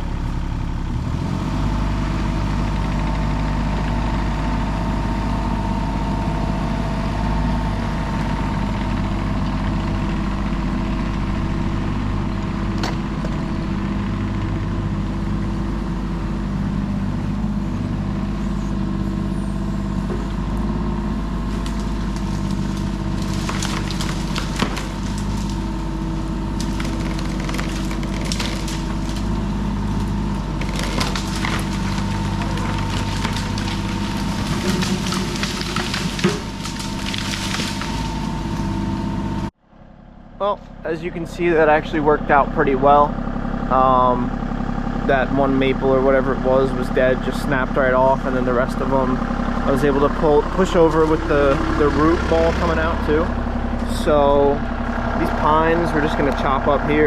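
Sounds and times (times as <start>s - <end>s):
excavator diesel engine running: 0.0s - 57.0s
wood cracking and splintering: 1.0s - 39.5s, 45.6s - 57.0s.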